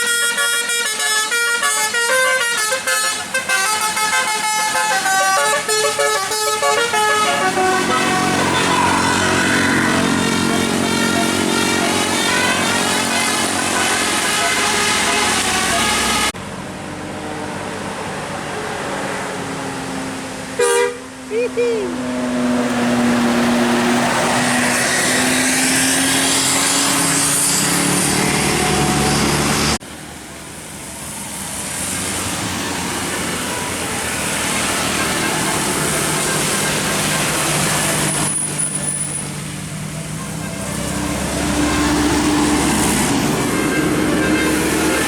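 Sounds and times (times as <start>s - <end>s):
roadside traffic noise: 0.0s - 45.0s
heavy vehicle engine droning: 2.2s - 45.0s.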